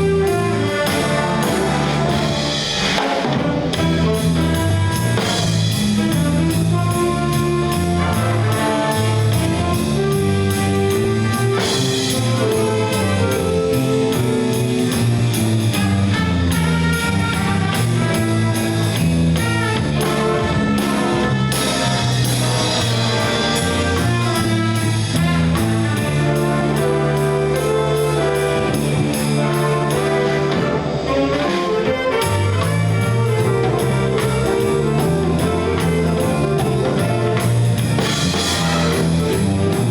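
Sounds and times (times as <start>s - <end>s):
brass section: 0.0s - 39.9s
drum kit: 0.0s - 39.9s
guitar: 0.0s - 39.9s.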